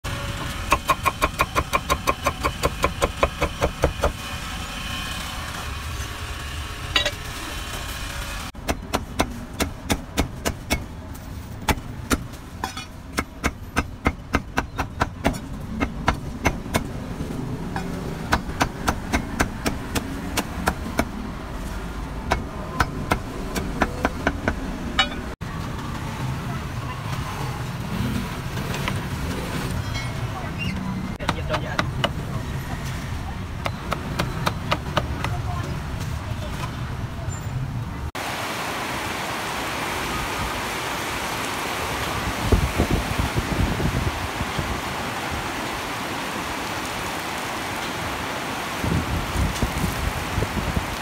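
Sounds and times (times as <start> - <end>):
street traffic noise: 0.0 - 51.0.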